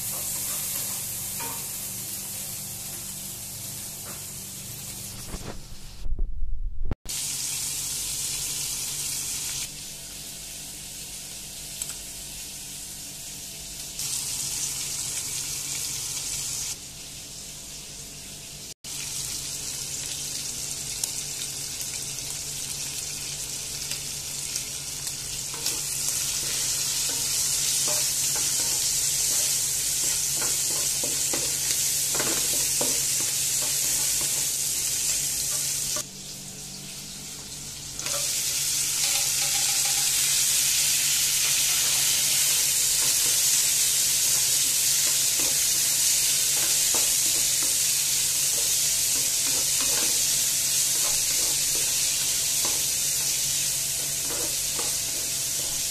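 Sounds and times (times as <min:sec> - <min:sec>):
chicken sizzling in oil: 0:07.1 - 0:55.9.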